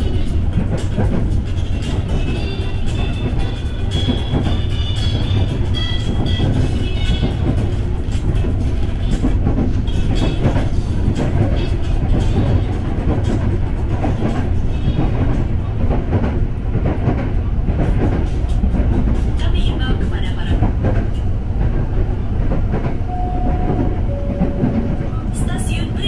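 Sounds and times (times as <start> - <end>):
electric train rumble: 0.0 - 26.0.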